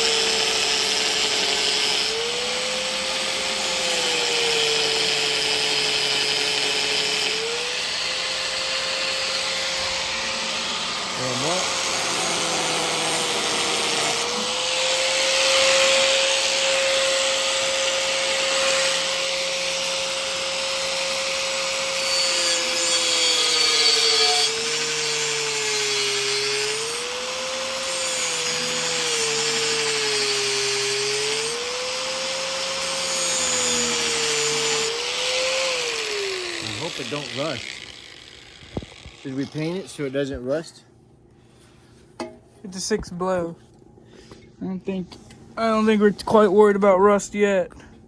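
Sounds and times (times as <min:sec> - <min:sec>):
electric grinder grinding metal: 0:00.0 - 0:40.6.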